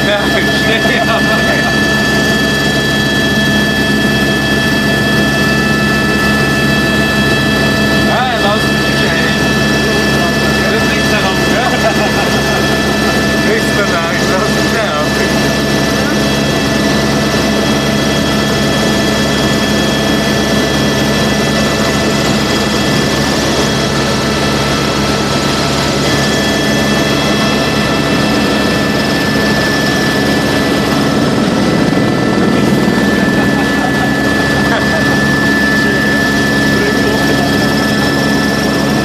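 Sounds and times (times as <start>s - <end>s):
helicopter turbine and rotor noise: 0.0s - 39.0s
high-pitched whine: 0.0s - 39.0s.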